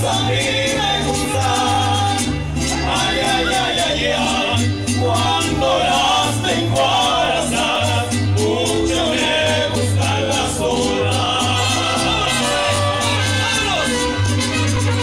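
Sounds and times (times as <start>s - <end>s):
mariachi band playing with singing: 0.0s - 15.0s.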